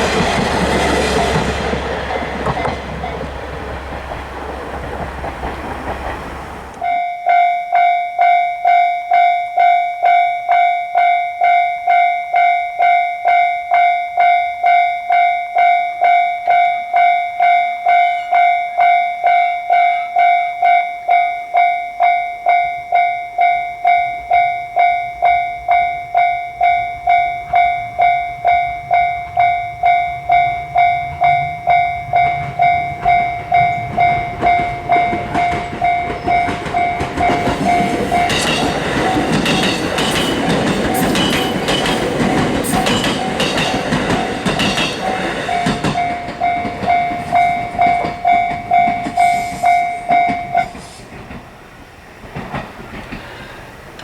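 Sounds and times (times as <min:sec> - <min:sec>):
railroad crossing warning bell: 0:00.0 - 0:04.3, 0:05.2 - 0:51.4.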